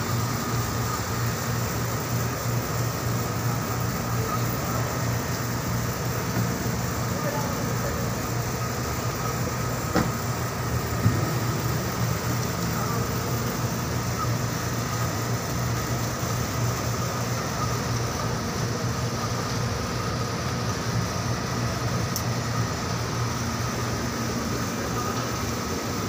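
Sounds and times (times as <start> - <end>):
mechanical hum and rumble: 0.0 - 26.0.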